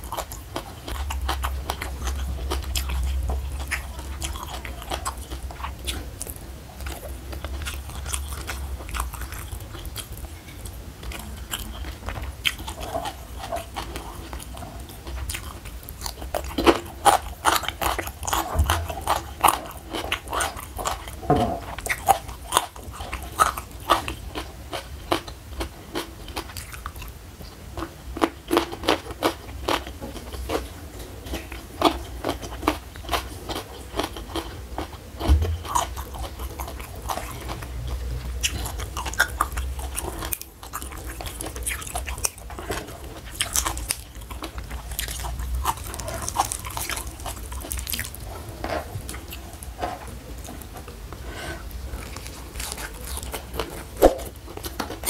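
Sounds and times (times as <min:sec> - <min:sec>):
crunchy chewing of vegetables: 0:00.0 - 0:55.0.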